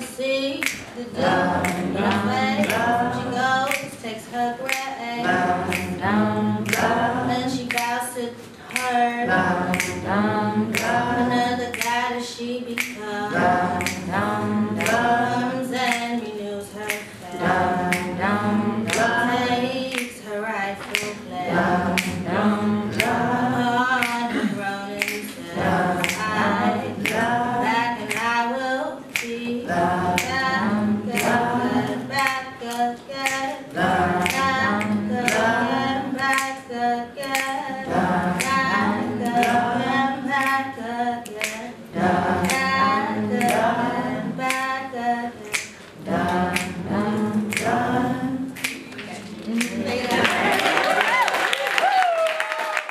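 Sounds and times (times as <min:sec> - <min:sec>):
woman singing: 0:00.0 - 0:52.9
audience singing along: 0:00.9 - 0:51.3.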